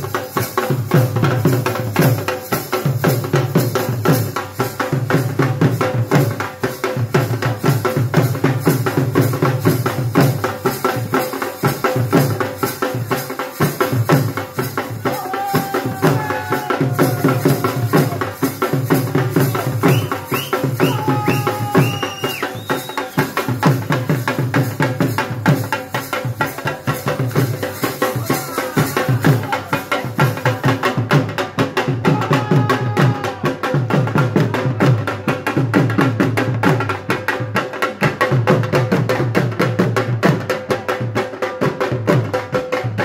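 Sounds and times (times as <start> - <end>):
dhol drum fast rhythm: 0.0 - 43.0.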